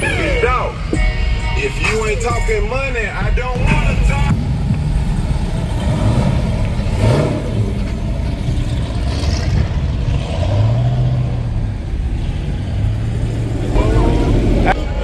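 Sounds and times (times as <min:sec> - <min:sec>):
car engine revving and running: 0:00.0 - 0:15.0
outdoor noise: 0:00.0 - 0:15.0.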